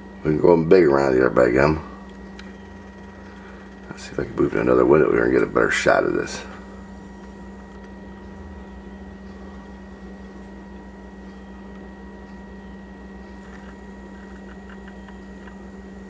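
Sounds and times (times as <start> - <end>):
steady indoor hum: 0.0 - 16.0.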